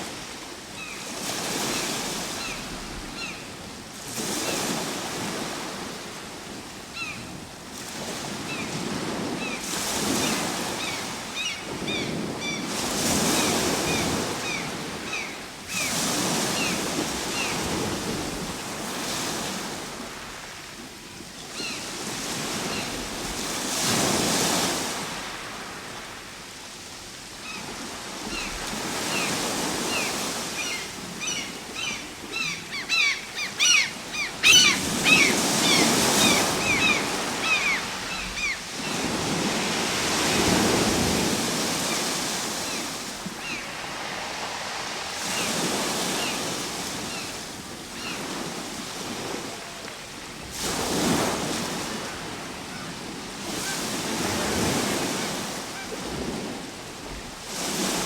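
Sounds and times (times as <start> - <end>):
ocean waves breaking: 0.0 - 20.9, 21.6 - 26.5, 27.5 - 58.0.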